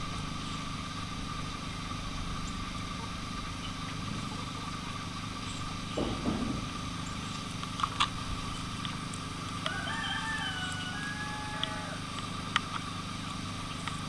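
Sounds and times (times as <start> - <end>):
constant high hum: 0.0 - 14.0
motor-like drone: 0.0 - 14.0.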